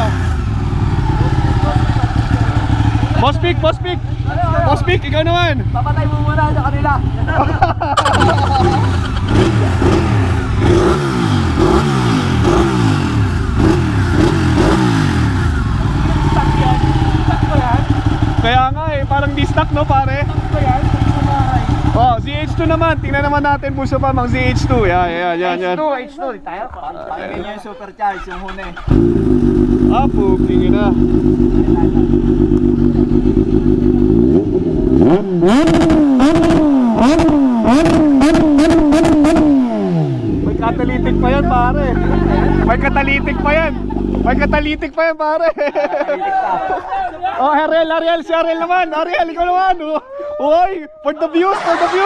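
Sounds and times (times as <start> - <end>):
motorcycle engine revving: 0.0 - 25.1, 28.2 - 44.8.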